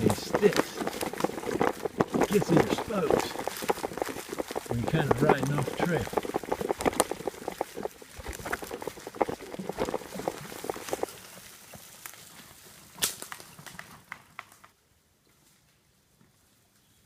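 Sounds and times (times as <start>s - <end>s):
sticks and leaves crackling in spokes: 0.0s - 15.9s.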